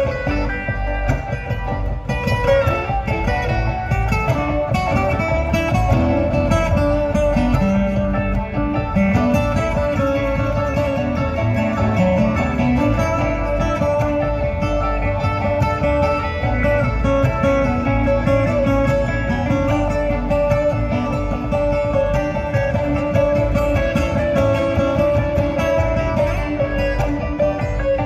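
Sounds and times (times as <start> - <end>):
bluegrass string band playing: 0.0 - 28.0.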